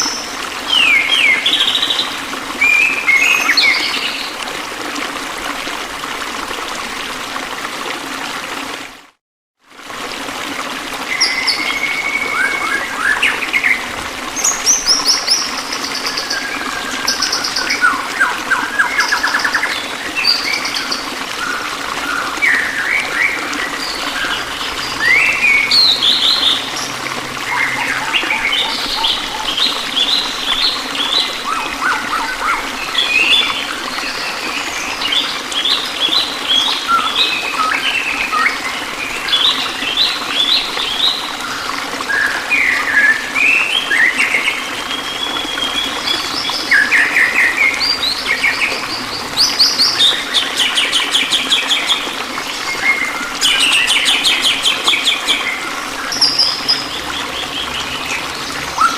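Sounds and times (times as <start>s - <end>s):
running water: 0.0s - 58.9s.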